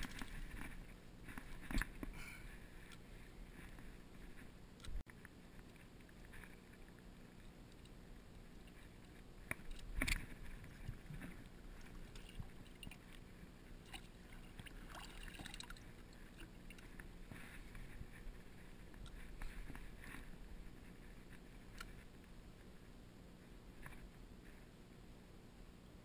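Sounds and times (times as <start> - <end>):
faint handling and rustling: 0.0 - 24.9.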